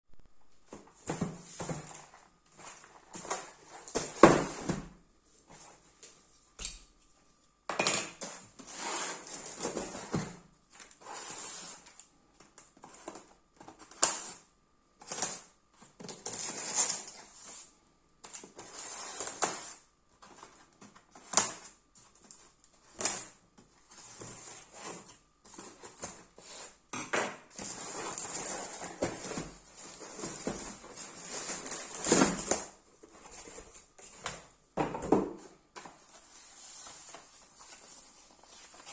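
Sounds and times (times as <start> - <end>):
packaging rustling and scraping: 0.7 - 6.0, 8.2 - 12.1, 15.0 - 38.9.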